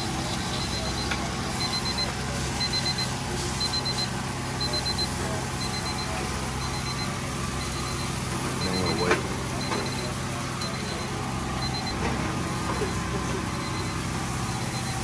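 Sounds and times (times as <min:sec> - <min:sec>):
high-pitched alarm beeps: 0:00.0 - 0:15.0.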